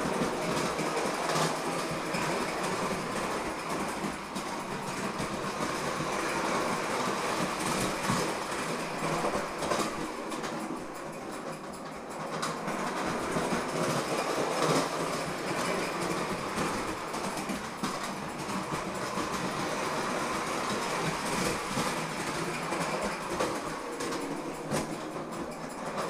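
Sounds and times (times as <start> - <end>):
toy train wheels rattling on rails: 0.0 - 26.0.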